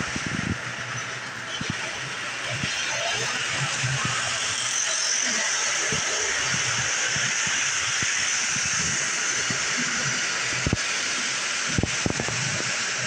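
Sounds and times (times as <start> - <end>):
toy train running on track: 0.0 - 13.0.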